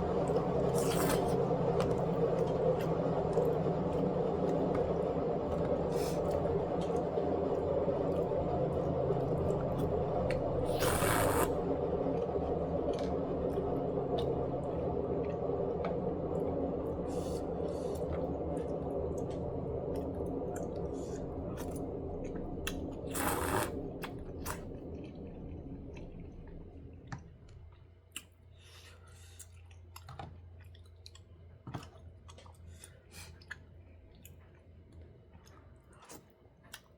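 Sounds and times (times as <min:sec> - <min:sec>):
steady low hum: 0:00.0 - 0:35.8.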